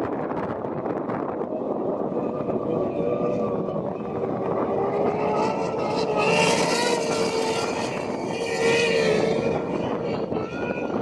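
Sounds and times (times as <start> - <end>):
powerboat engines droning: 0.3 - 11.0.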